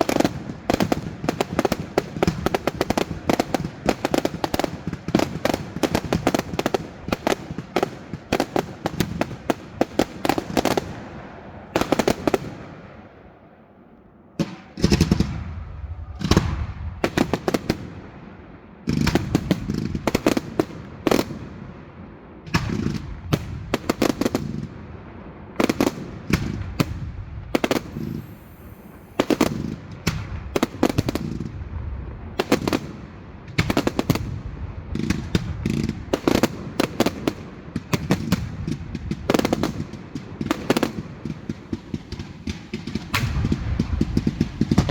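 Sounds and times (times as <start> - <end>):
fireworks cracking and banging: 0.0 - 13.2, 14.4 - 44.9.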